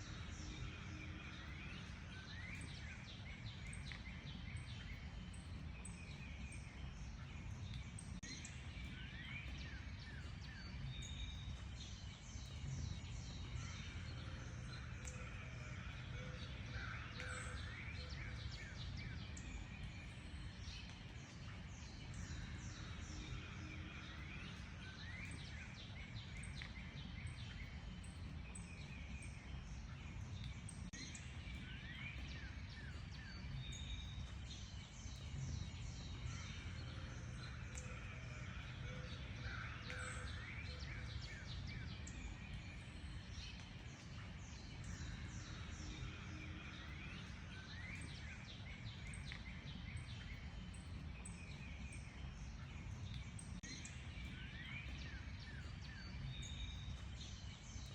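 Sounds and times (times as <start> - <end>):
wild birds chirping and singing: 0.0 - 57.9.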